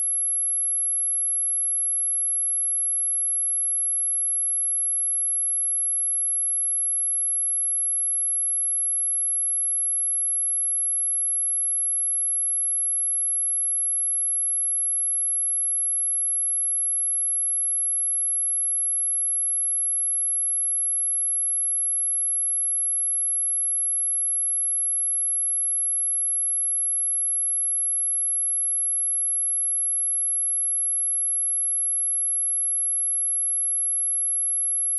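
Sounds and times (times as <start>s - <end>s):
high-pitched sine test tone: 0.0s - 3.0s, 8.6s - 34.9s.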